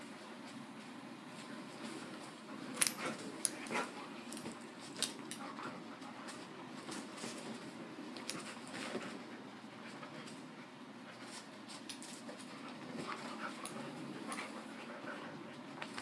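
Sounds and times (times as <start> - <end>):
dogs scuffling: 0.5 - 16.0.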